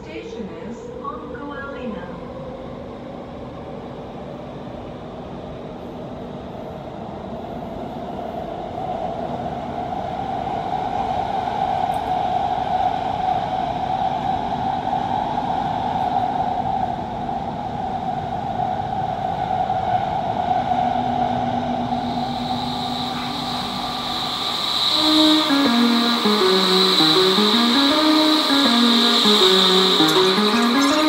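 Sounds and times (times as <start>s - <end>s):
train running hum: 0.0s - 31.0s.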